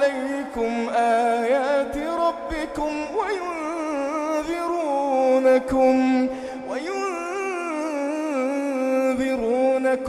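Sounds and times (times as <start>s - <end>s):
man chanting melodic recitation: 0.0s - 10.0s.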